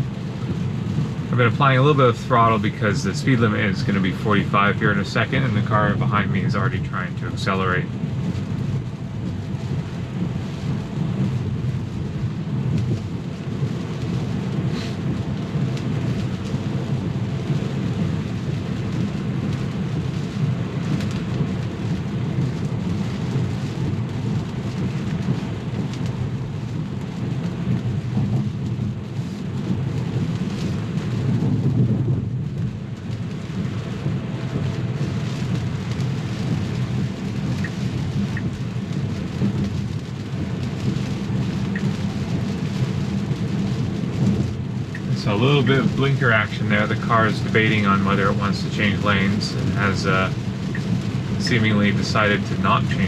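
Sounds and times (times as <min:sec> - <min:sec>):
rain on a car: 0:00.0 - 0:53.0
tyres rumbling on wet road: 0:00.0 - 0:53.0.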